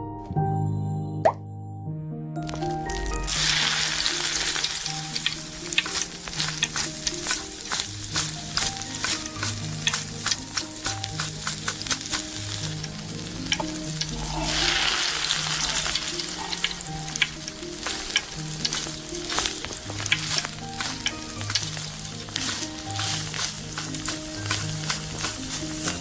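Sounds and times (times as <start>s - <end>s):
food sizzling in hot oil: 3.2s - 26.0s.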